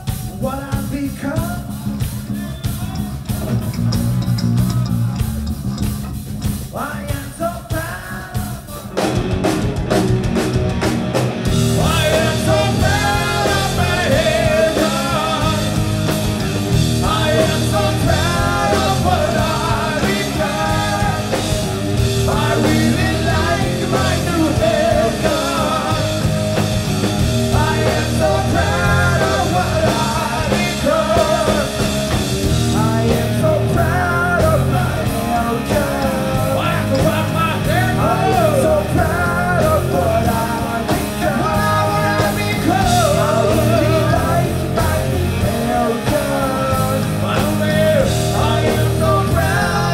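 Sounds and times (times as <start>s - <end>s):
man singing: 0.0s - 3.4s, 6.6s - 9.0s, 11.7s - 49.9s
rock band playing: 0.0s - 49.9s.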